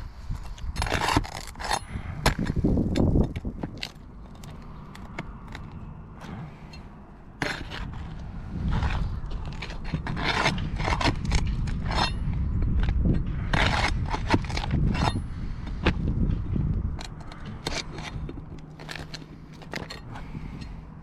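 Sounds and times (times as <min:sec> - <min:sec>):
shingles scraping and rustling: 0:00.2 - 0:06.7, 0:07.4 - 0:20.6.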